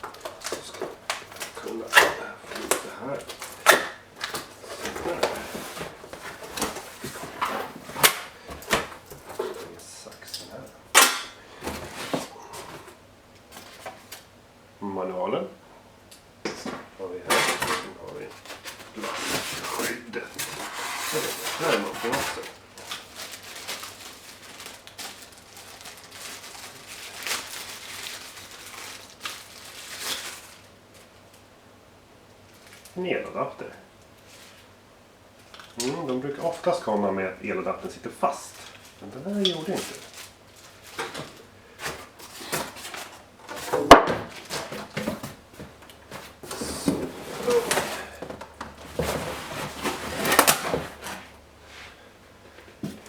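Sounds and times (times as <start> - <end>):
packaging rustling and crinkling: 0.0 - 14.3, 16.6 - 31.5, 32.4 - 33.0, 34.0 - 34.8, 35.4 - 53.0.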